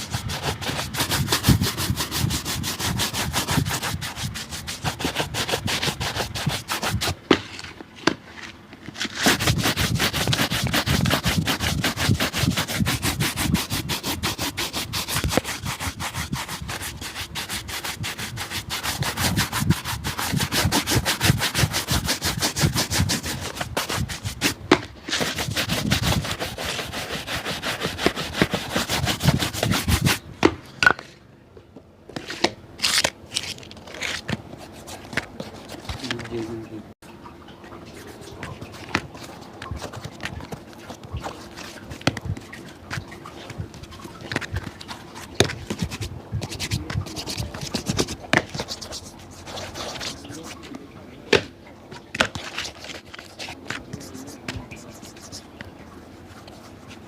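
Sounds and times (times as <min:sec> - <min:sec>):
rapid rubbing on a shoe: 0:00.0 - 0:07.3, 0:09.0 - 0:30.2, 0:33.9 - 0:36.6, 0:37.9 - 0:50.8, 0:52.2 - 0:57.0.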